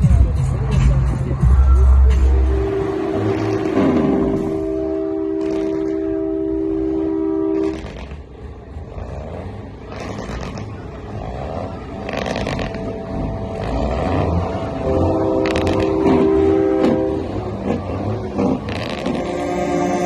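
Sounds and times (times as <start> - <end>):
engine rumble: 0.0 - 20.0
truck air horn: 2.1 - 20.0.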